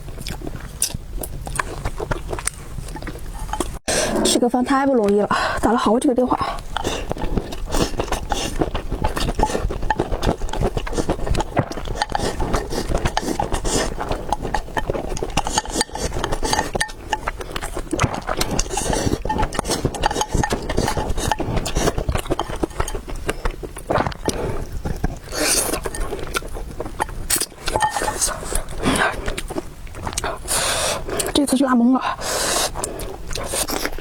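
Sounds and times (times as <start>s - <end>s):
chewing with clicks and smacks: 0.0s - 3.9s, 5.0s - 34.0s.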